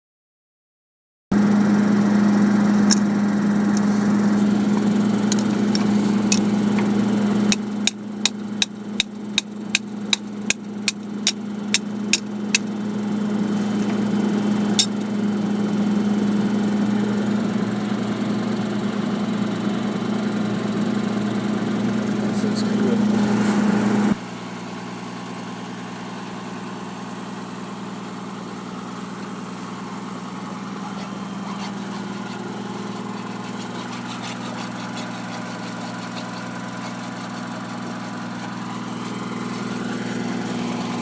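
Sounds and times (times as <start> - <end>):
engine idling: 1.4 - 41.0.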